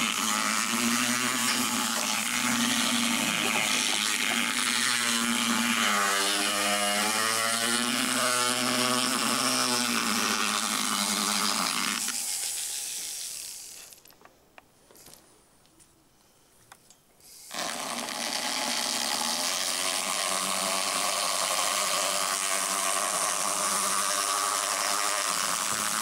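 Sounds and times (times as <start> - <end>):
power float grinding teeth: 0.0 - 13.9, 17.5 - 26.0.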